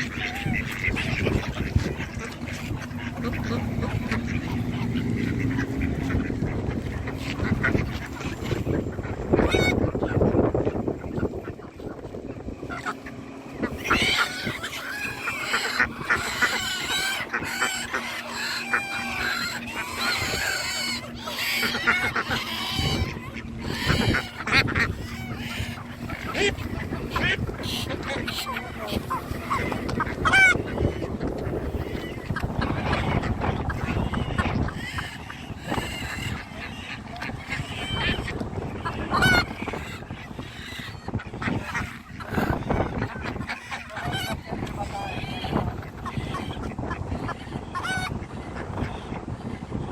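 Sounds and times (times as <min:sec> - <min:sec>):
geese honking: 0:00.0 - 0:49.9
poultry calling: 0:00.0 - 0:49.9.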